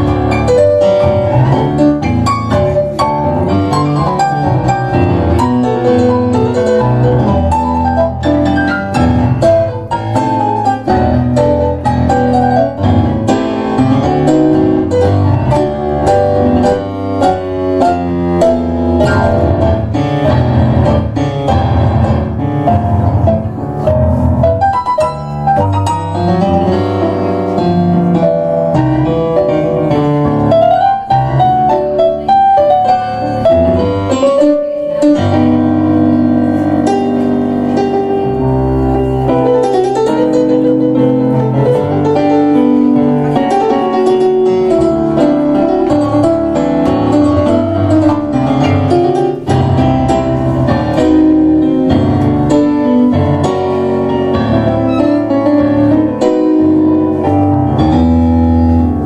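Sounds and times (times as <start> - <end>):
tango piano duet: 0.0 - 59.0.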